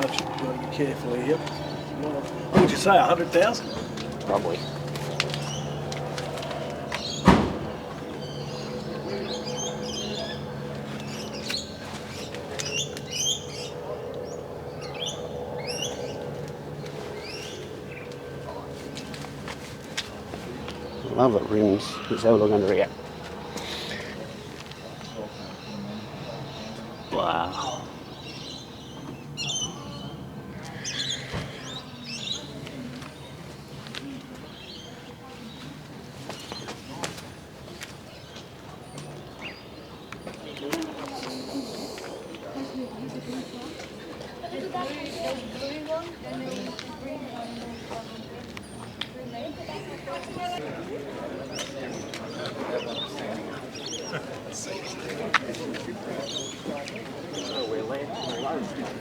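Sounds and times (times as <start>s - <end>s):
small birds chirping: 0.0s - 50.6s, 55.8s - 58.8s
murmur of people talking: 0.0s - 59.0s.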